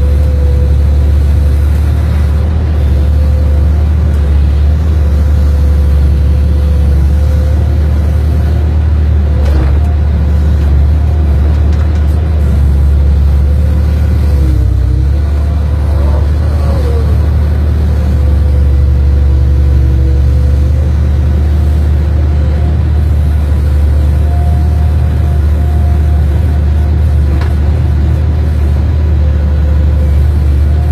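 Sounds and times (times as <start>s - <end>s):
excavator diesel engine: 0.0s - 30.9s
hydraulic whine: 0.0s - 30.9s.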